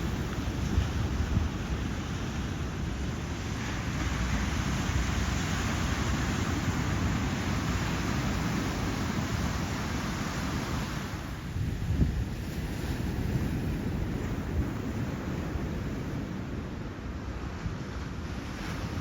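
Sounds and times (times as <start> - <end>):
ocean surf breaking: 0.0 - 19.0
wind on microphone: 0.0 - 19.0.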